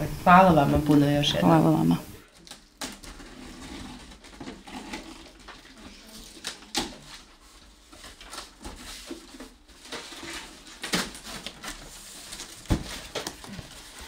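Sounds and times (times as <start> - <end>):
packaged food rustling: 2.2 - 14.0.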